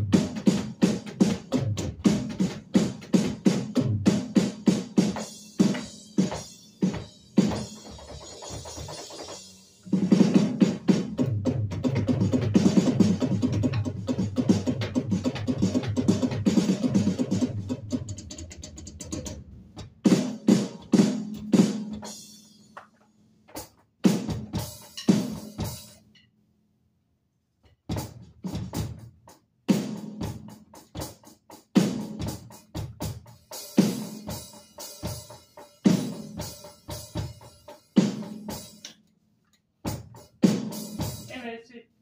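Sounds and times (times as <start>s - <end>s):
electronic drum kit beats and fills: 0.0s - 26.3s, 27.6s - 41.6s.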